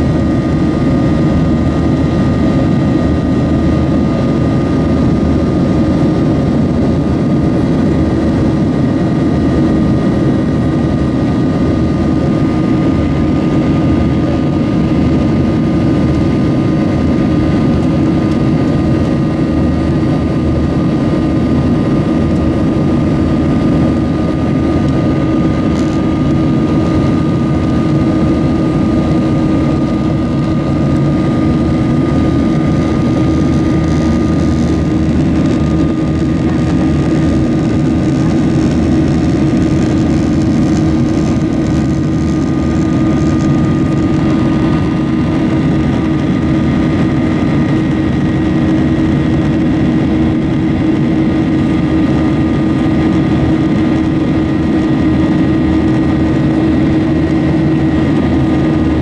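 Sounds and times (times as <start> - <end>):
jet engine cabin rumble: 0.0 - 59.0.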